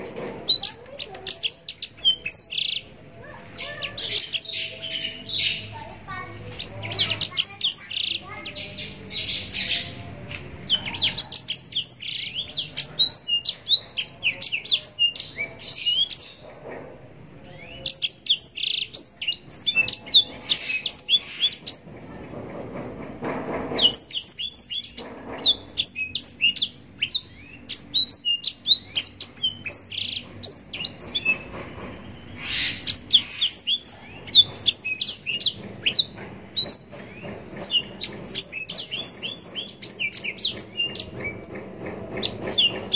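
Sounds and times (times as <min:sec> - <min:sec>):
canary twittering song: 0:00.0 - 0:16.6, 0:17.4 - 0:22.0, 0:23.7 - 0:42.9.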